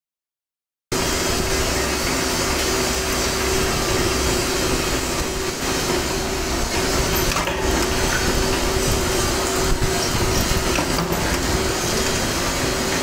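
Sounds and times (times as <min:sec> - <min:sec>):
power press running: 0:00.9 - 0:13.0.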